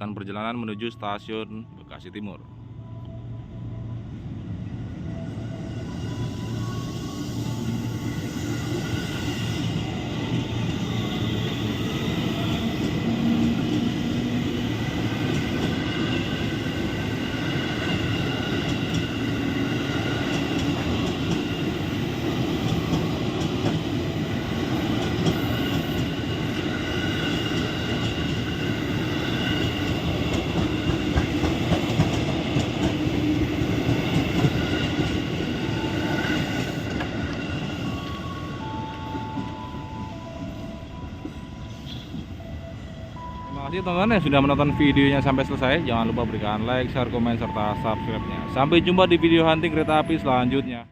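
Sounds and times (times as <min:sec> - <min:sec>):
train wheels rumbling on rail: 0:05.1 - 0:50.6.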